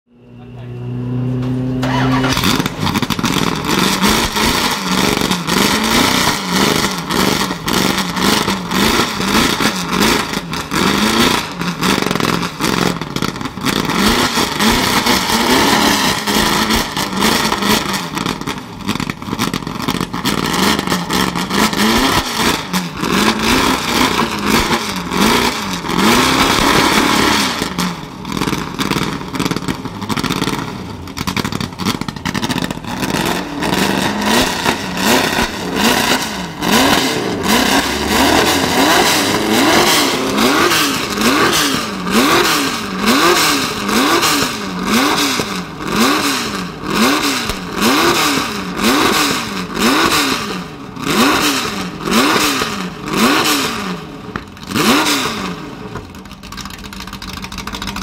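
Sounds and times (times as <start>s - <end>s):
car engine starting and revving: 0.5s - 58.0s.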